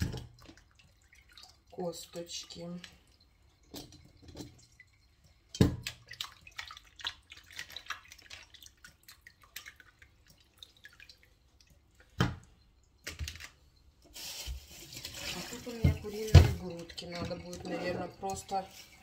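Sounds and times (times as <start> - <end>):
water dripping and splashing: 0.0 - 19.0.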